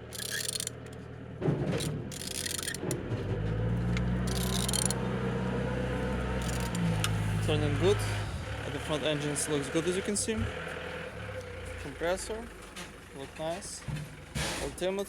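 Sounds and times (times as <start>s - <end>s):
engine scrapes and clicks: 0.0s - 15.0s
low mechanical hum: 0.0s - 15.0s.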